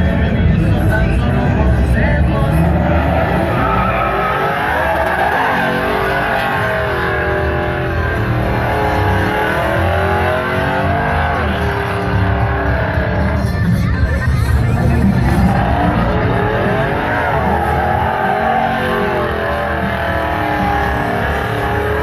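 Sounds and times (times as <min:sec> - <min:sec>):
music with bass line: 0:00.0 - 0:22.0
truck engine revving: 0:00.0 - 0:22.0.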